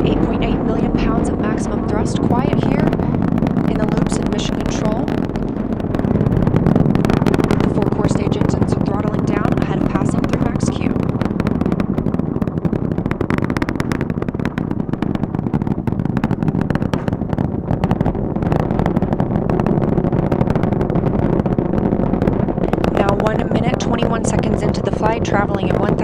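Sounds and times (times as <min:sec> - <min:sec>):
rocket engines rumbling and crackling: 0:00.0 - 0:26.0.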